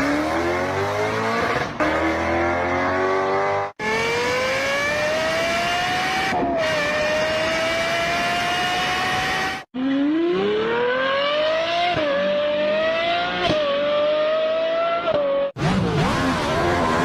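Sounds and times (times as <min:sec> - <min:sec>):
car engine accelerating through gears: 0:00.0 - 0:17.0
car engine revving high: 0:00.0 - 0:17.0.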